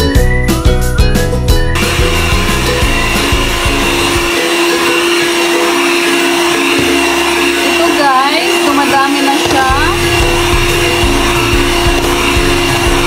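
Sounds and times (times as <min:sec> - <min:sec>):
background music: 0:00.0 - 0:13.0
electric hand mixer whipping cream: 0:01.8 - 0:13.0.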